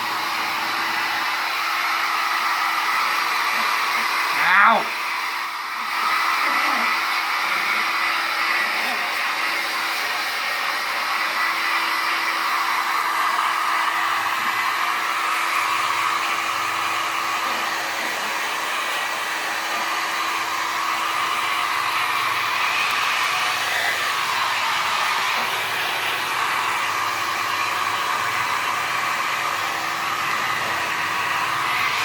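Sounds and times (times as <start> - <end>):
electric blower motor whirring: 0.0 - 32.0.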